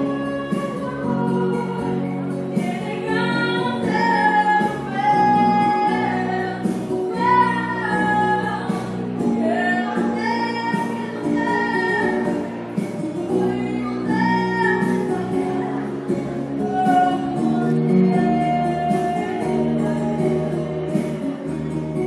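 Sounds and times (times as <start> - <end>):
instrumental accompaniment: 0.0 - 22.0
woman singing: 0.0 - 22.0.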